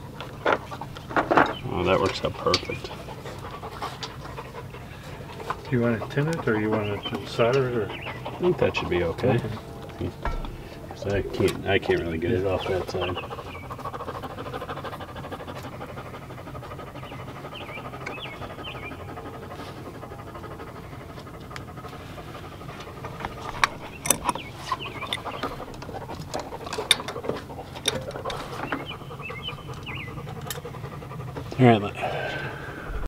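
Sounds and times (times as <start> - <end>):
dog panting: 0.0 - 33.0.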